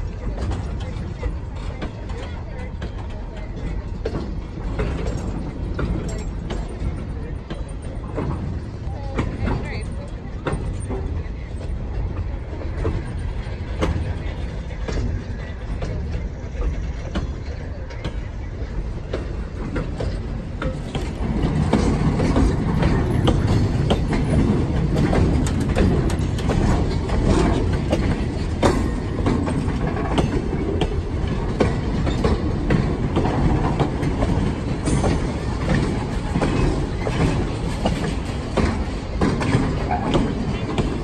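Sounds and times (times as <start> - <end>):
train wheels rumbling on rail: 0.0 - 41.0
wheels clicking over rail joints: 0.0 - 41.0.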